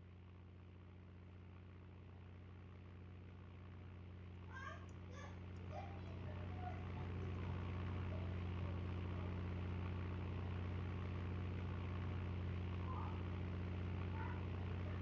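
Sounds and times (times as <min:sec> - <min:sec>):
propeller aircraft engines droning: 0:02.6 - 0:15.0.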